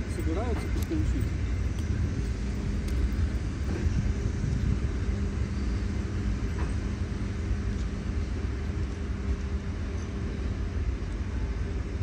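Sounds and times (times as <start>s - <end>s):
constant hum: 0.0s - 12.0s
train low rumble: 0.0s - 12.0s.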